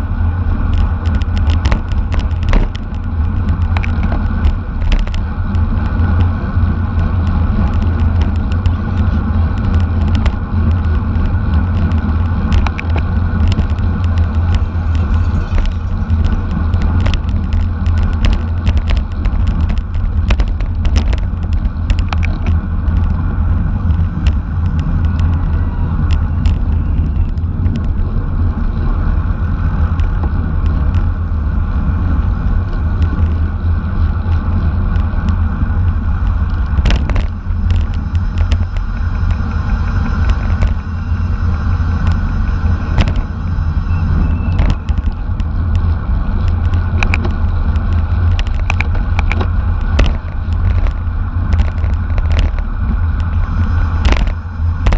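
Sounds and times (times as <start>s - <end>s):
road and tyre noise: 0.0s - 54.9s
wind rumble on microphone: 0.0s - 54.9s
bike clicks and knocks: 0.6s - 31.4s, 32.0s - 54.9s.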